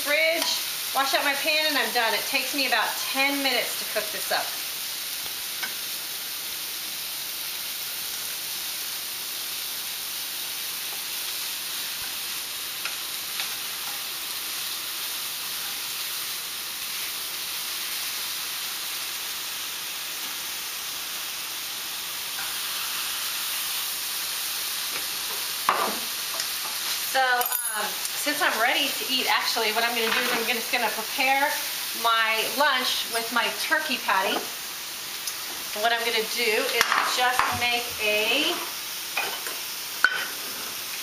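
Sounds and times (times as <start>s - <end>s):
meat sizzling in frying pans: 0.0s - 41.0s.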